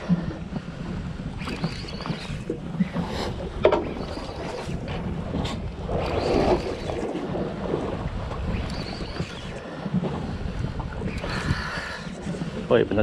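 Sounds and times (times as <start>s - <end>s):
sea noise: 0.0s - 13.0s
wind on microphone: 0.0s - 13.0s
fishing reel drag whirring: 1.2s - 12.3s.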